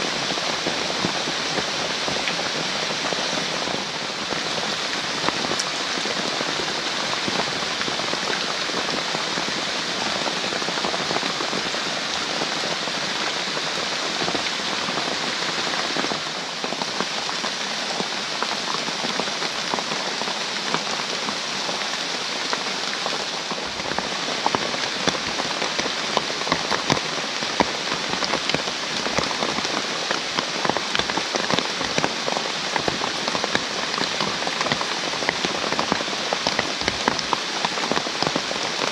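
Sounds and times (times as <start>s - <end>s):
close raindrop hits: 0.0s - 38.9s
heavy rain in forest: 0.0s - 38.9s.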